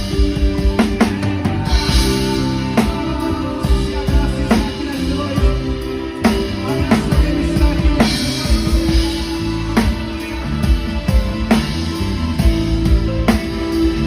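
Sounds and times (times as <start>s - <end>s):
band playing music: 0.0s - 14.0s
drum kit beat: 0.0s - 14.0s.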